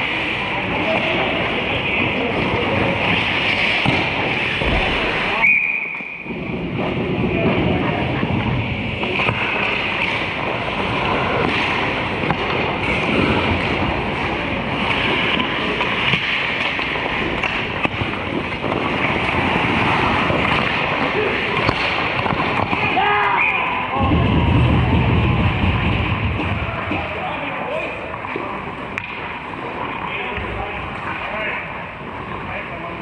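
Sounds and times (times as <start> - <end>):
hockey rink noise: 0.0 - 33.0.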